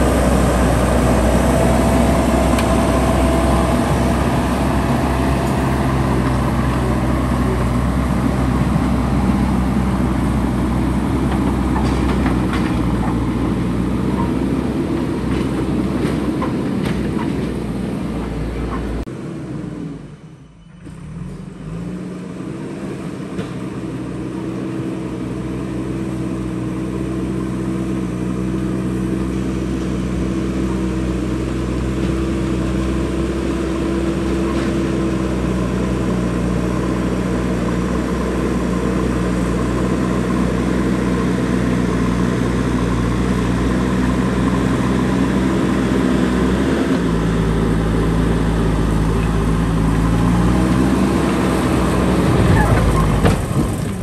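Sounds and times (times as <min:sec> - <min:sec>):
loader bucket pushing soil: 0:00.0 - 0:19.0, 0:23.1 - 0:54.0
backhoe diesel engine running: 0:00.0 - 0:54.0.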